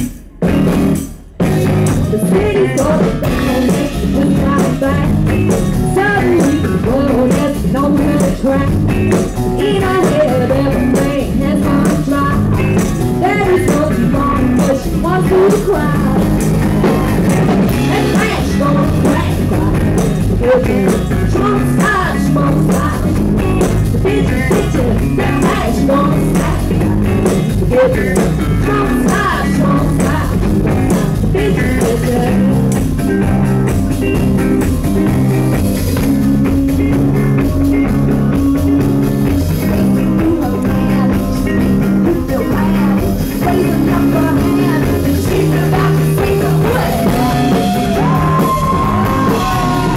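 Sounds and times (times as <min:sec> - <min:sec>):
live rock band playing: 0:00.0 - 0:49.9
woman singing: 0:01.8 - 0:32.8, 0:39.3 - 0:49.9.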